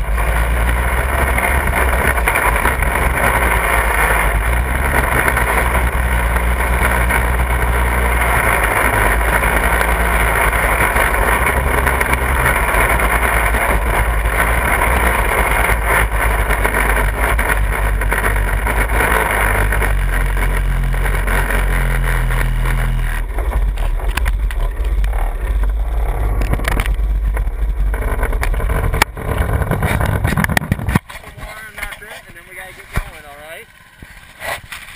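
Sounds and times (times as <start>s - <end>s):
buggy motor drone: 0.0s - 34.9s
wind and rolling noise: 0.0s - 34.9s.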